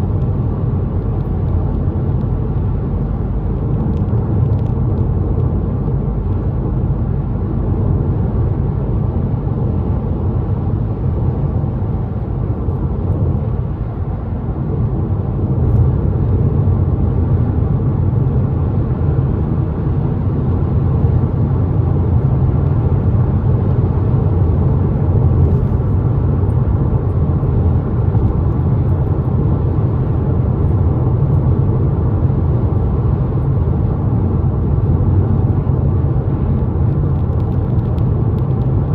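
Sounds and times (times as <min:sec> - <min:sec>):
car driving rumble inside cabin: 0:00.0 - 0:38.9.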